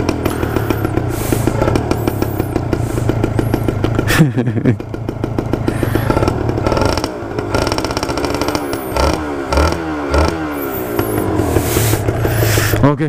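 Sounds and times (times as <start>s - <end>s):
two-stroke motorcycle engine revving: 0.0s - 13.0s.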